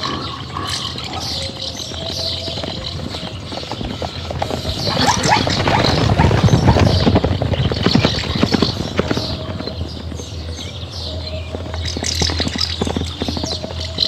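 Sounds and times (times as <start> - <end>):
hooves galloping on dry ground: 0.0 - 14.0.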